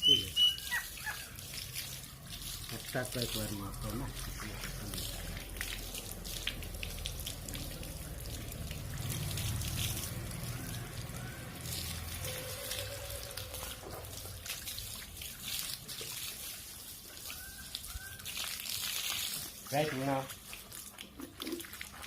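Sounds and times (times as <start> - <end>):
water pouring and splashing: 0.0 - 22.0.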